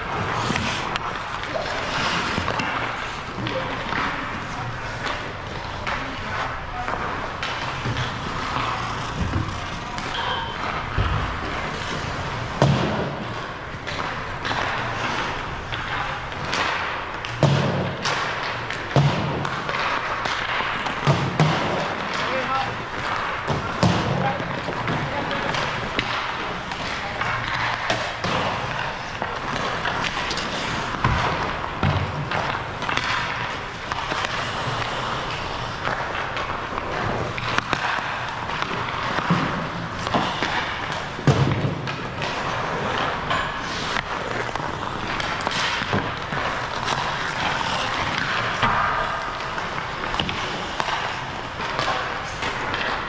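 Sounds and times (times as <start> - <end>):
pucks and sticks knocking: 0.0 - 53.0
skates scraping ice: 0.0 - 53.0.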